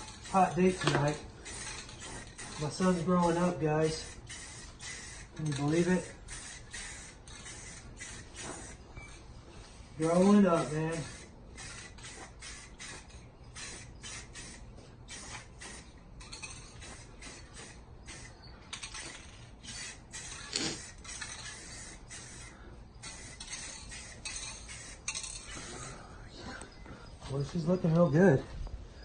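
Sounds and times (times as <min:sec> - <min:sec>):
spray paint can hissing: 0:00.0 - 0:25.9.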